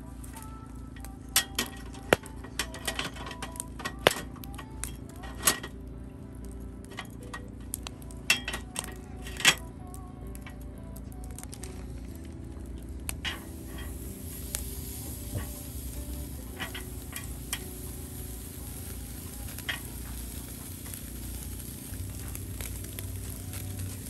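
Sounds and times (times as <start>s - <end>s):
meat sizzling on a grill: 0.0s - 24.0s
sharp crackles of wood fire: 0.0s - 24.0s.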